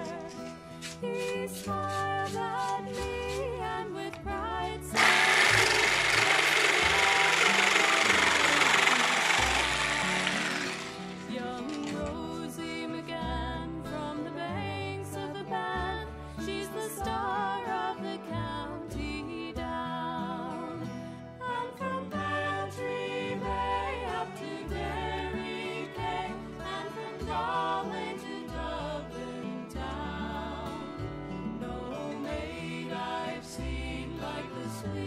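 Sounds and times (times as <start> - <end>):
background music with vibrato melody: 0.0 - 35.0.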